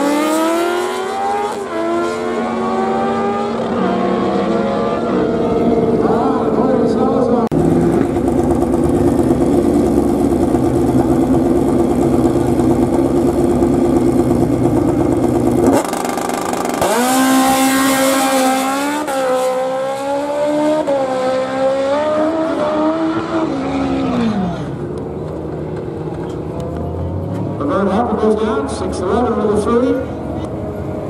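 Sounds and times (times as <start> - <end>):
motorcycle accelerating through gears: 0.0 - 27.8
motorcycle engines revving: 0.0 - 31.0.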